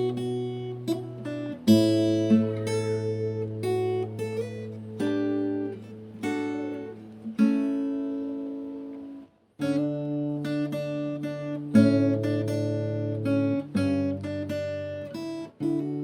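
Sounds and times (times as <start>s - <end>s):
acoustic guitar plucked chords: 0.0s - 16.0s.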